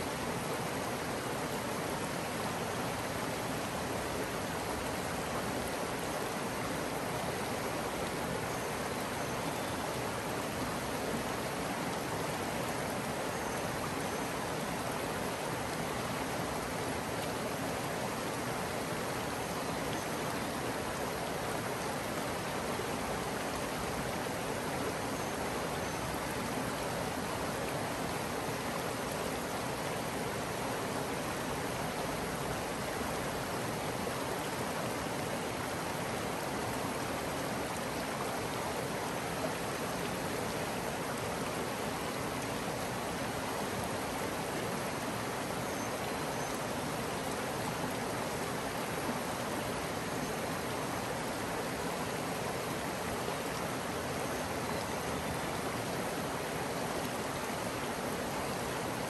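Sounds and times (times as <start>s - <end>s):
creek water running: 0.0s - 59.0s.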